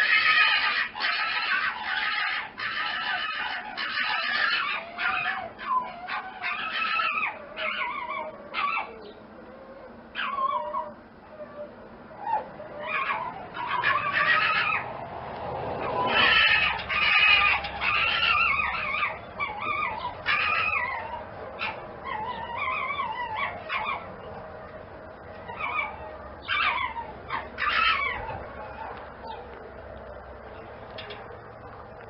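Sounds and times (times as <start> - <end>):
high wavering animal cries: 0.0 - 15.0, 15.8 - 29.5.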